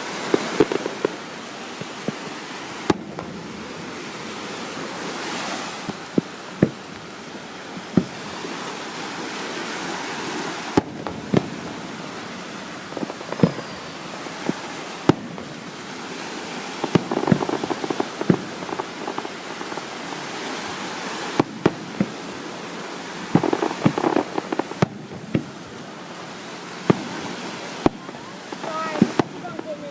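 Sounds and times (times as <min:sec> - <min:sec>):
fireworks bangs: 0:00.0 - 0:29.9
fireworks crackling: 0:00.0 - 0:29.9
surf and wind hiss: 0:00.0 - 0:29.9.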